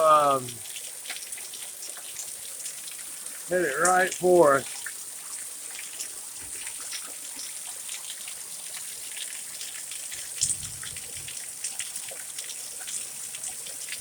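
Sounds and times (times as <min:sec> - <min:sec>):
rain falling: 0:00.0 - 0:14.0
raindrops ticking on microphone: 0:00.0 - 0:14.0.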